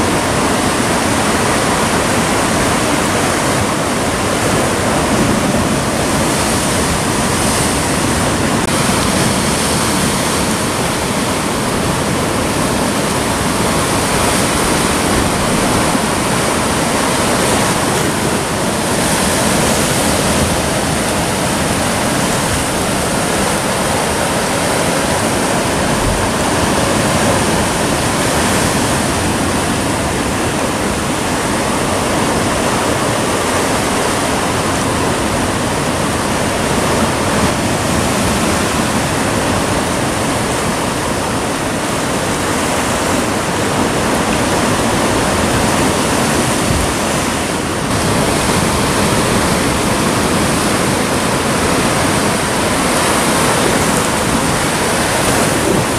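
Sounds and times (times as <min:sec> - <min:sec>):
surf breaking on rocks: 0:00.0 - 0:55.9.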